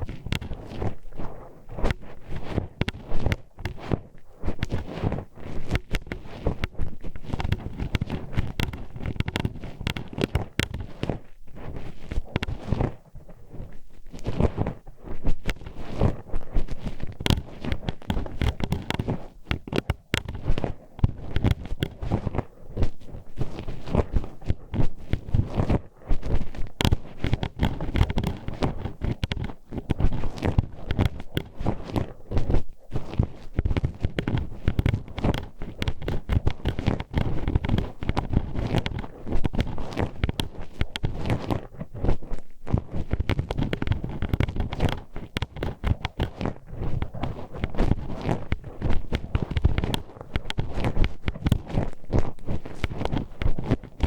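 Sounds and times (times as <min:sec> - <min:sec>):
hairpin scraping microphone: 0:00.0 - 0:54.0.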